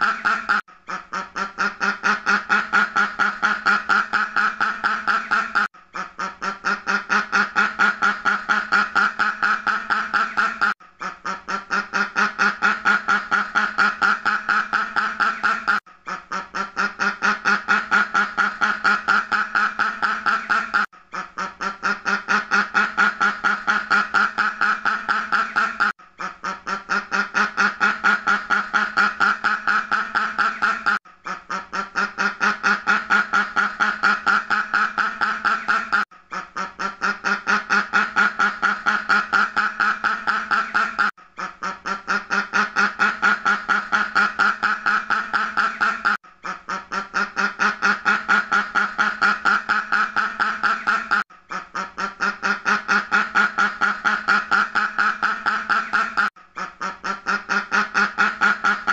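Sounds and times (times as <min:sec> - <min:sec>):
duck quacking: 0:00.0 - 0:58.9.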